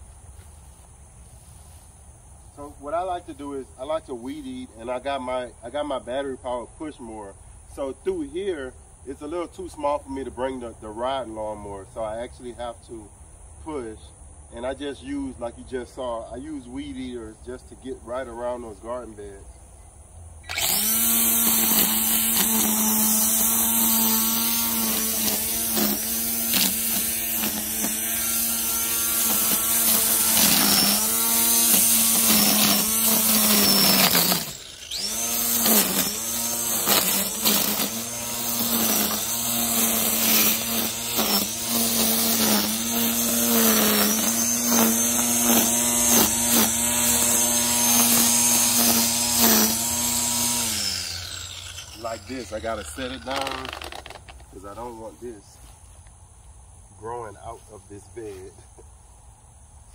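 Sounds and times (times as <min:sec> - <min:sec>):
string trimmer whining: 0:00.0 - 0:13.0, 0:13.8 - 0:19.6, 0:20.4 - 0:56.0.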